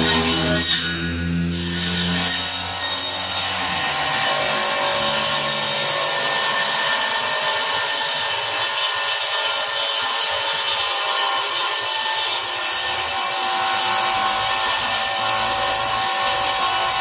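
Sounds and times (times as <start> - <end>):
table saw cutting wood: 0.0 - 17.0.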